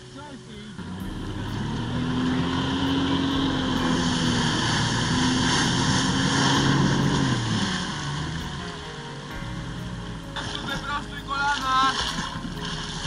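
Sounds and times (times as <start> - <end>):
water jets spraying: 0.1 - 13.0
jet ski engine revving: 0.6 - 13.0.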